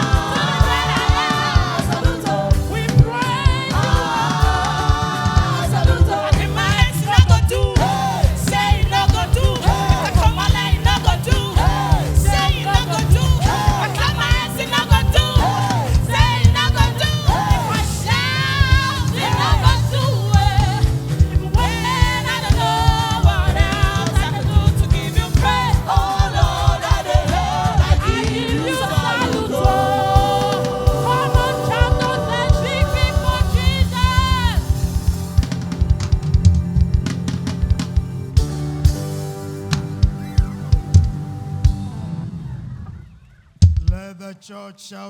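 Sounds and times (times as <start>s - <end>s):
drum kit beat: 0.0s - 42.2s
gospel voices singing: 0.0s - 43.0s, 43.9s - 45.0s
bass: 0.0s - 43.9s.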